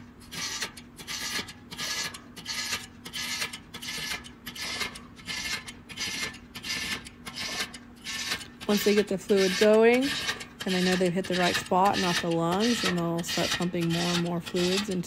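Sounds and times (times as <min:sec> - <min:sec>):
raspy hand pump strokes: 0:00.0 - 0:15.0.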